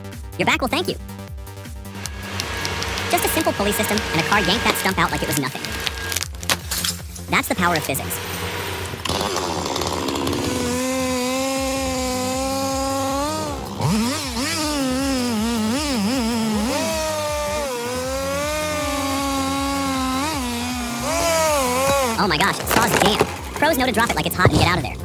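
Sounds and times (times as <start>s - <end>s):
chainsaw engine whining: 1.9s - 25.0s.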